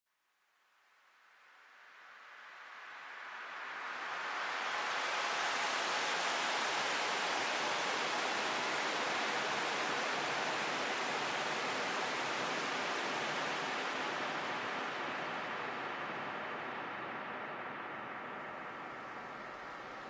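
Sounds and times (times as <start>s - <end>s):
electronic hiss-like noise texture: 1.3s - 20.0s.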